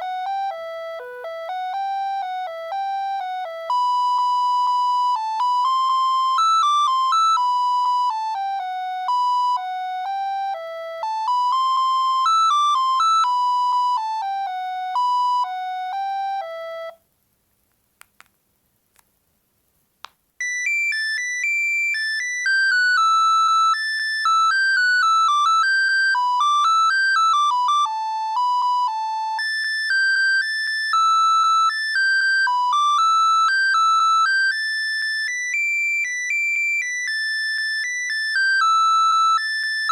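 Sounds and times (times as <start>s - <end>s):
electronic phone ringtone melody: 0.0s - 17.0s, 20.4s - 39.9s.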